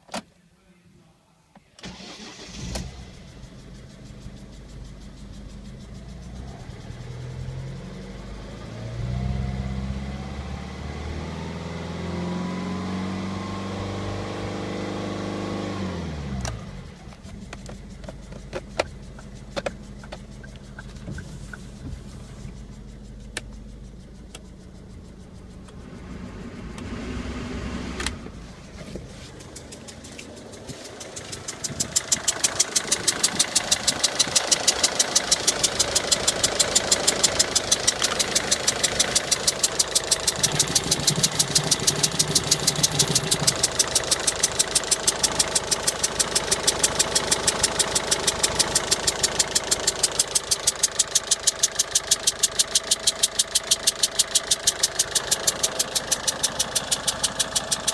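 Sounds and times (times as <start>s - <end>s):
car engine revving and idling: 1.8s - 57.9s
rapid engine ticking: 1.9s - 8.6s, 16.6s - 57.9s.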